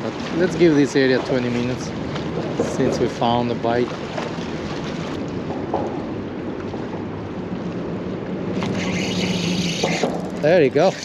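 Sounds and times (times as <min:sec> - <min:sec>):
water noise: 0:00.0 - 0:11.0.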